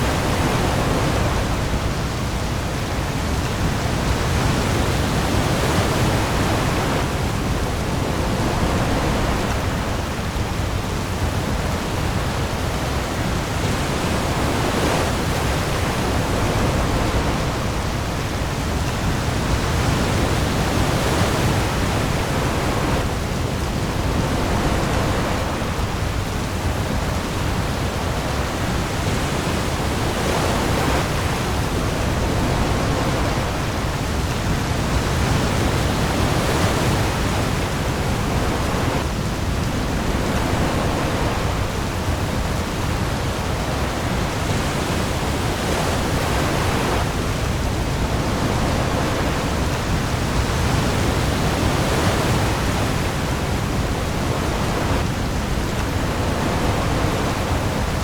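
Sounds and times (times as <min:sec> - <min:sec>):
heavy rain on the sea: 0:00.0 - 0:58.0
waves: 0:00.0 - 0:58.0.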